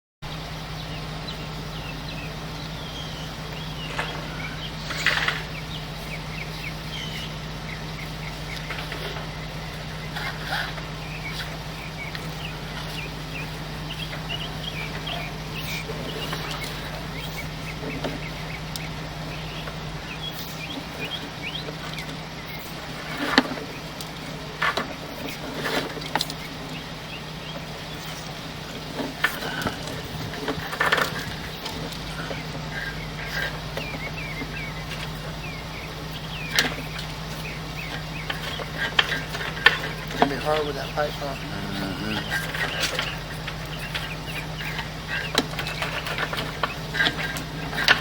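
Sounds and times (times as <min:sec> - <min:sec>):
birds chirping: 0:00.2 - 0:48.0
steady low hum: 0:00.2 - 0:48.0.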